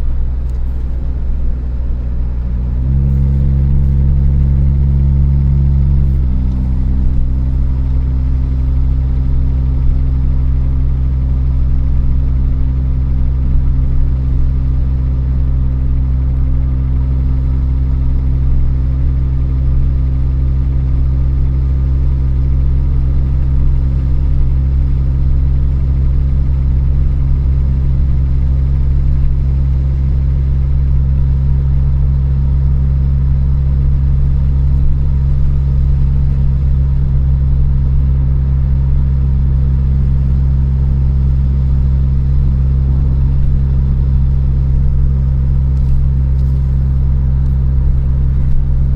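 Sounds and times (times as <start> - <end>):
engine running: 0.0 - 48.9
engine tapping and ticking: 0.0 - 48.9.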